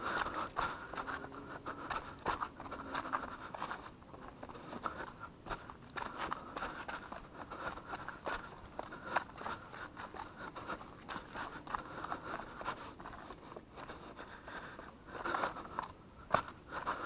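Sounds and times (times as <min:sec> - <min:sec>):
running footsteps on steps and dirt: 0:00.0 - 0:17.0.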